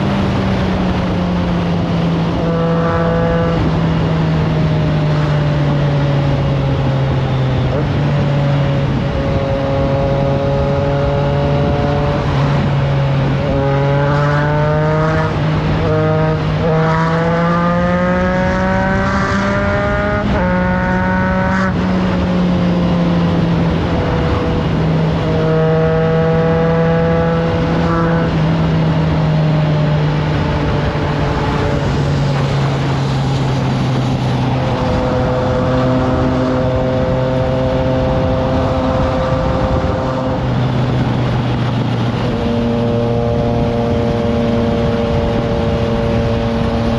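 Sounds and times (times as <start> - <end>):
motorcycle engine revving: 0.0 - 46.9
wind noise on microphone: 0.0 - 46.9.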